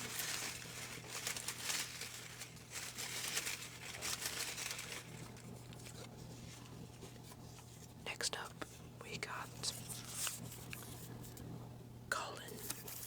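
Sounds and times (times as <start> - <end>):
paper rustling and crinkling: 0.0 - 8.0, 9.3 - 11.5, 12.4 - 13.0.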